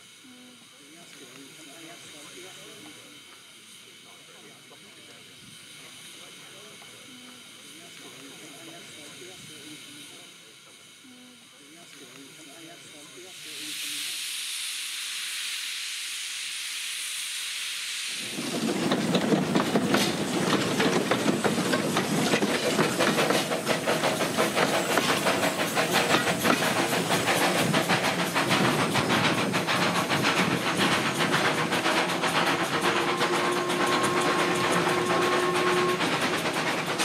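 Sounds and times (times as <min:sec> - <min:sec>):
steam locomotive chuffing: 0:00.0 - 0:11.0, 0:11.6 - 0:37.0
steam hissing: 0:00.0 - 0:37.0.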